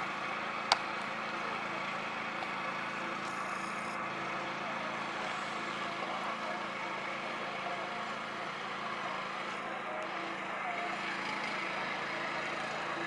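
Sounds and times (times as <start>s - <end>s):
steady mechanical drone: 0.0s - 13.0s.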